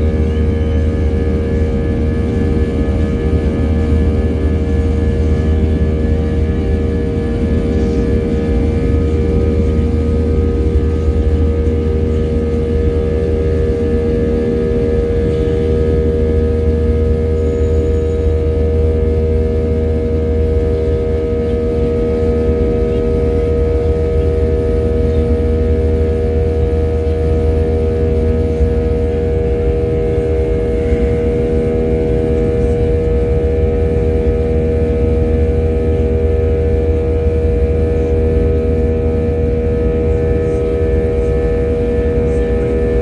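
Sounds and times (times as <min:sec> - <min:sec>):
airliner engines and airflow rumble: 0:00.0 - 0:43.0
constant tonal hum: 0:00.0 - 0:43.0.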